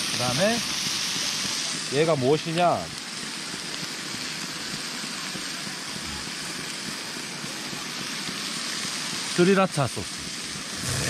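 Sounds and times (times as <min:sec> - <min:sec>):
camp stove hissing: 0:00.0 - 0:11.0
shrimp sizzling in butter: 0:00.0 - 0:11.0.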